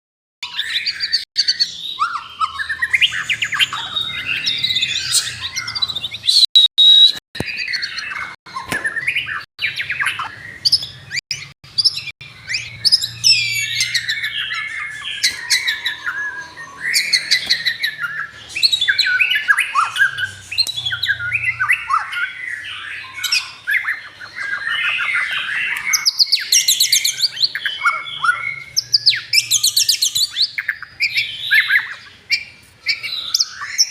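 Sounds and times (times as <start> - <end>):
songbird singing: 0.4 - 33.9.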